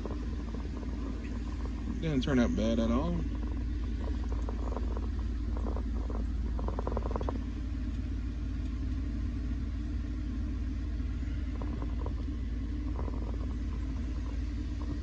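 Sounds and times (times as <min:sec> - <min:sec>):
faint clicks and rattles: 0:00.0 - 0:09.1, 0:11.1 - 0:15.0
low mechanical rumble: 0:00.0 - 0:15.0.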